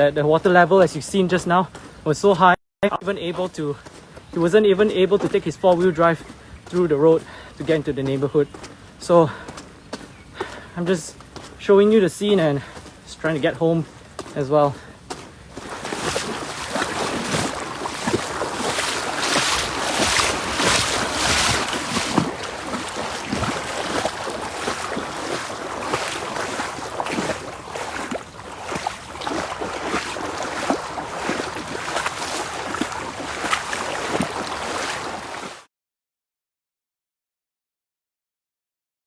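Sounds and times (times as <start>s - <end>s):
floodwater sloshing and splashing: 3.4s - 35.7s.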